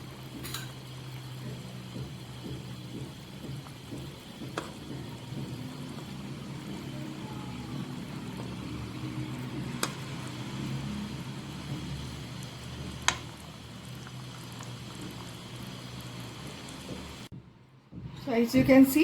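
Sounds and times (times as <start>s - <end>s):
curry bubbling in a pan: 0.0s - 17.3s.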